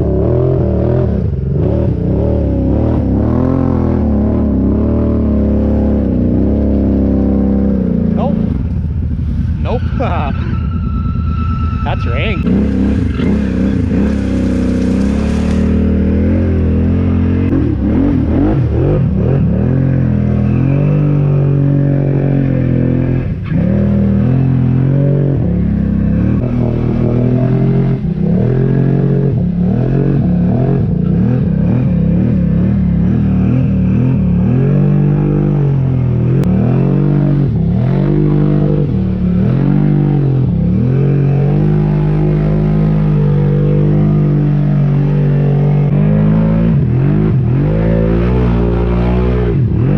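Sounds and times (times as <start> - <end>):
quad bike engine revving: 0.0 - 8.9, 11.8 - 49.9.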